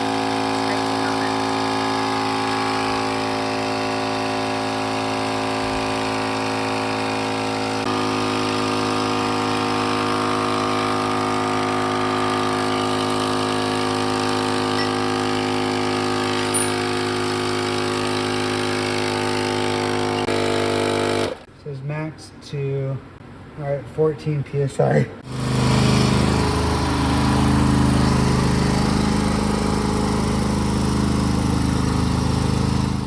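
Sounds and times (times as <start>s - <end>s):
portable air compressor running: 0.0s - 21.5s, 25.2s - 33.0s.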